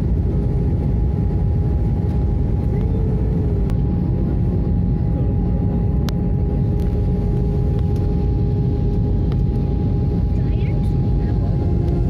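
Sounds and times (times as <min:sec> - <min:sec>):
airplane cabin roar: 0:00.0 - 0:12.0
steady whine: 0:00.0 - 0:12.0.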